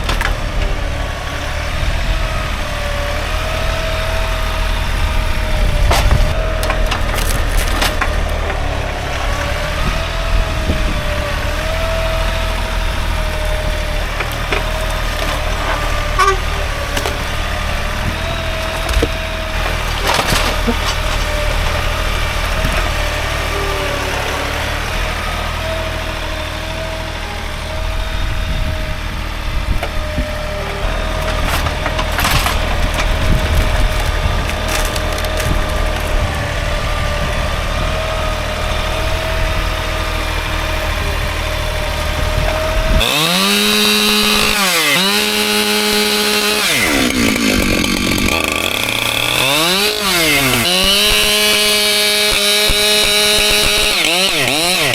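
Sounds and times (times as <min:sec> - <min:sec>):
wood cracking: 0:00.0 - 0:01.6, 0:02.2 - 0:26.0, 0:29.8 - 0:36.9, 0:37.9 - 0:54.9
chainsaw cutting wood: 0:00.0 - 0:54.9.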